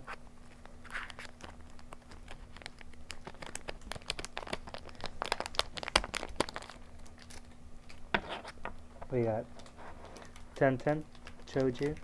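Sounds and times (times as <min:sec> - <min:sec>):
foil wrapper crinkling: 0:00.4 - 0:08.6, 0:09.5 - 0:12.0.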